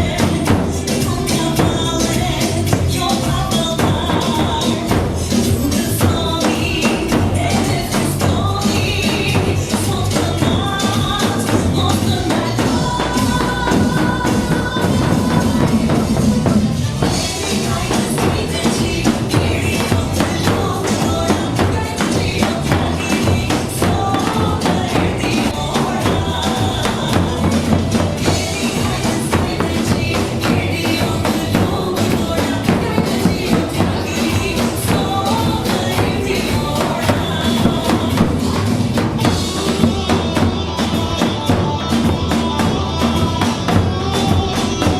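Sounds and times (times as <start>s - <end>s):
dance music: 0.0s - 44.9s.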